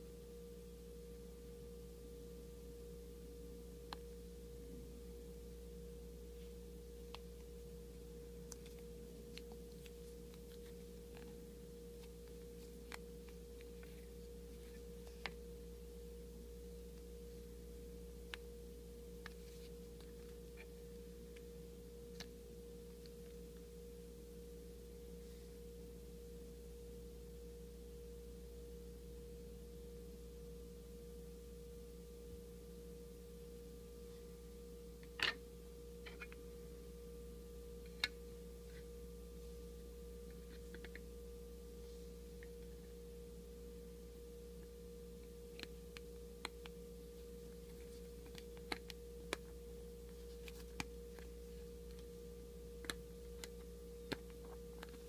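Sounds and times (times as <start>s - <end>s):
faint hum: 0.0s - 55.0s.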